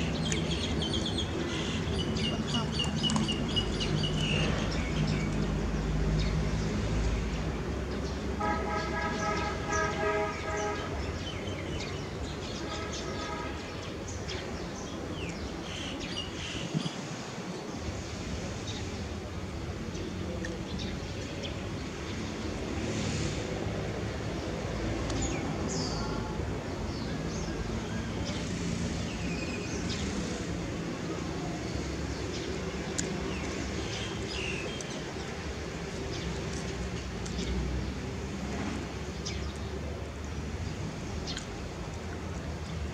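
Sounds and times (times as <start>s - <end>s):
distant traffic hum: 0.0s - 42.9s.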